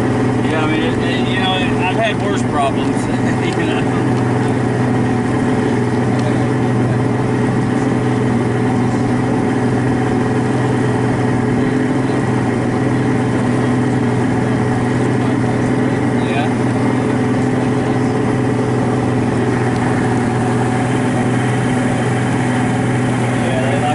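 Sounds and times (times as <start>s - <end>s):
boat motor humming: 0.0s - 23.9s.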